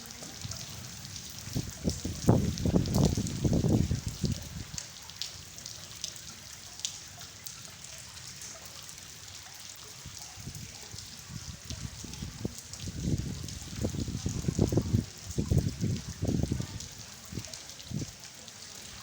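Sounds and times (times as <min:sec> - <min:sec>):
rain patter on hard floor: 0:00.0 - 0:19.0.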